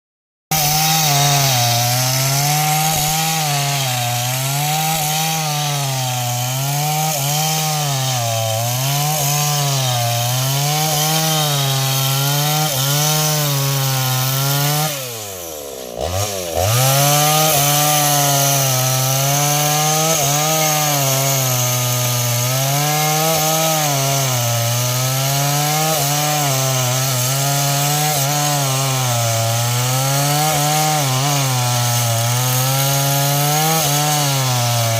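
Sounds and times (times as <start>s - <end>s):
chainsaw cutting wood: 0.5s - 34.9s.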